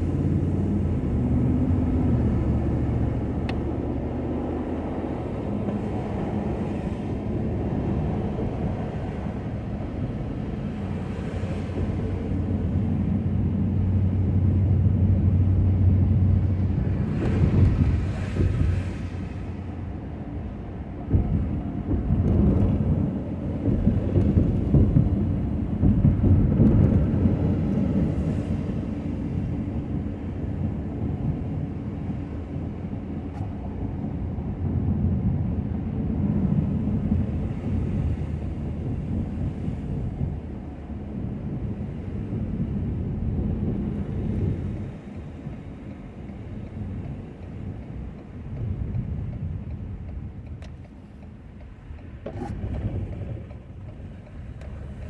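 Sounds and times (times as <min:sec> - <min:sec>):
truck engine rumble: 0:00.0 - 0:55.0.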